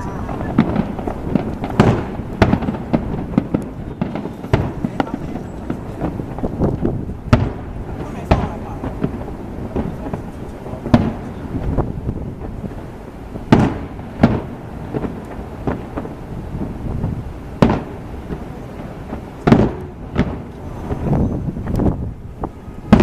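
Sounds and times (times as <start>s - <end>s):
continuous low rumble: 0.0s - 23.0s
fireworks bursting bangs: 0.0s - 23.0s.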